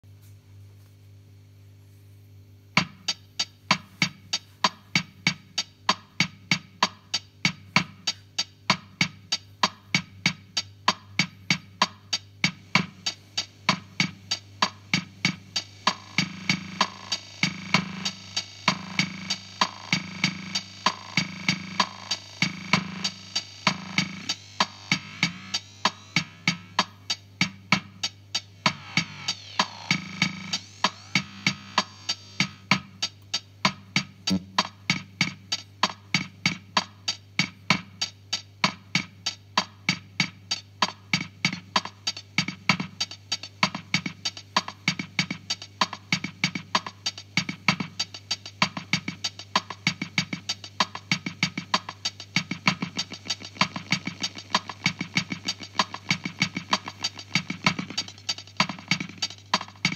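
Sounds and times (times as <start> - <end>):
steady low hum: 0.1 - 36.8, 41.4 - 59.9
drum machine rhythm with echoes: 2.7 - 59.9.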